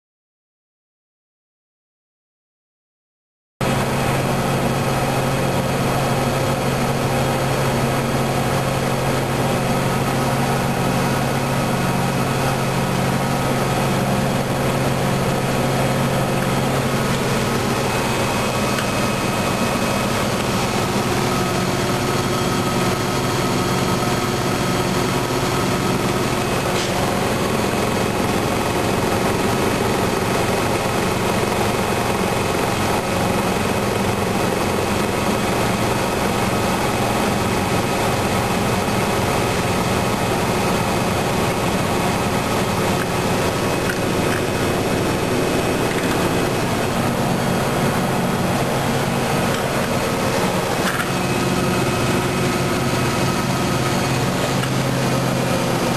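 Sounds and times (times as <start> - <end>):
washing machine running: 3.6 - 55.9.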